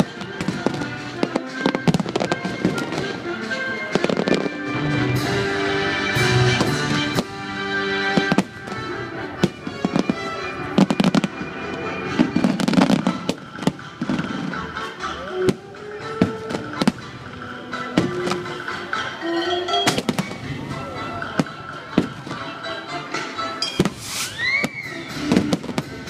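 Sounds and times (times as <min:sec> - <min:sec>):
fireworks bangs and crackles: 0:00.0 - 0:19.0, 0:19.8 - 0:22.6, 0:23.7 - 0:26.0
music: 0:00.0 - 0:26.0.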